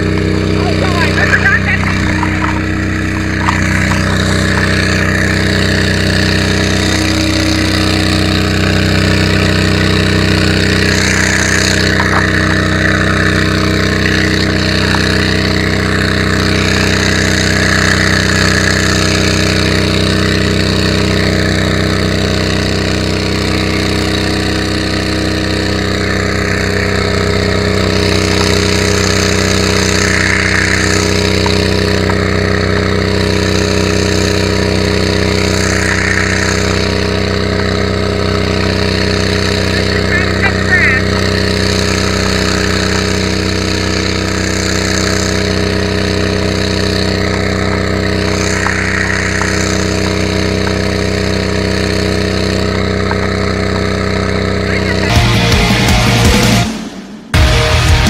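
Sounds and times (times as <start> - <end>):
fire truck engine humming: 0.0 - 58.0.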